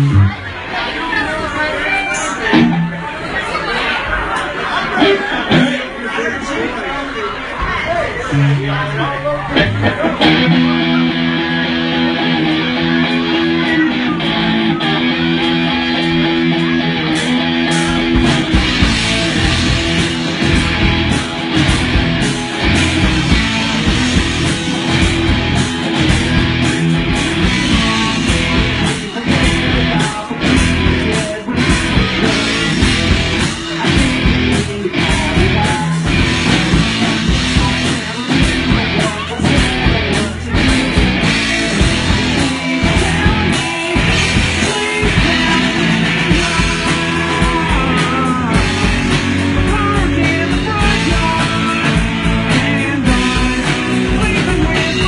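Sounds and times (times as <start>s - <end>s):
rock guitar chords: 0.0s - 0.9s, 1.9s - 3.2s, 5.0s - 5.9s, 8.3s - 55.0s
rock band with drums: 0.0s - 55.0s.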